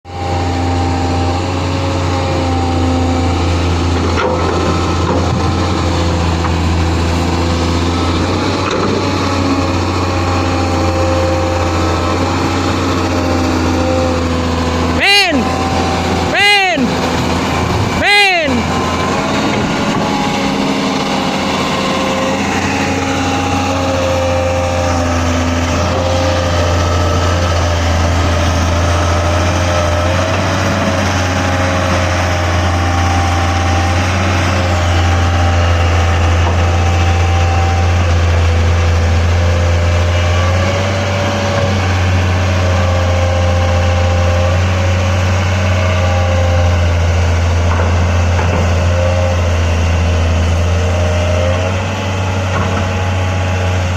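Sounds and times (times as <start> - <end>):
diesel engine droning: 0.0 - 53.9
wavering engine whine: 0.1 - 53.9.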